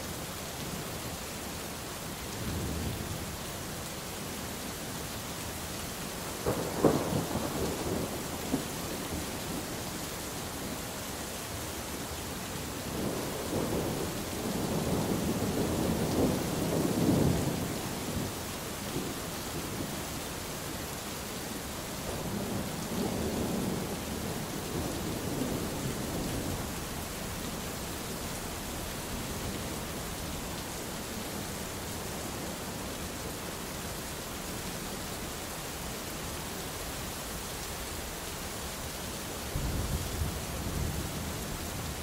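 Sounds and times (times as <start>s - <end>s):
heavy rain hissing: 2.0s - 42.0s.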